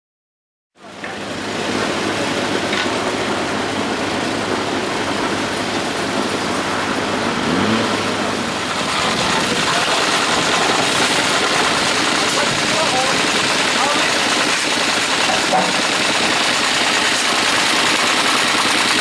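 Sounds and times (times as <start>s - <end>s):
excavator engine running: 0.8s - 19.0s
traffic engines: 0.8s - 19.0s.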